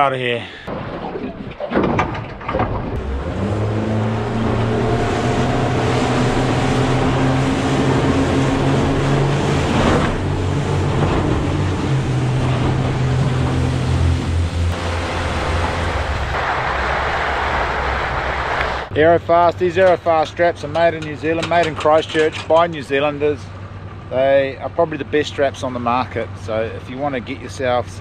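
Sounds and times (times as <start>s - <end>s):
water rushing along hull: 0.6s - 28.0s
outboard motor running: 2.9s - 28.0s.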